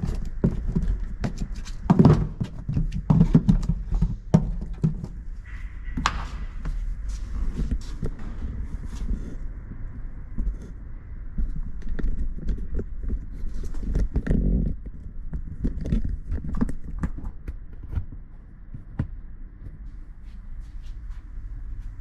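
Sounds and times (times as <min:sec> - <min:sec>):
low rumble: 0:00.0 - 0:22.0.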